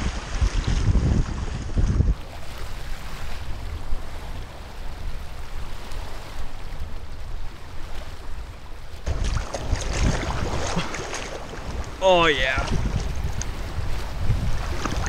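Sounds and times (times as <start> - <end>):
wind rumbling on microphone: 0.0 - 15.0
small waves lapping on rock: 2.3 - 15.0.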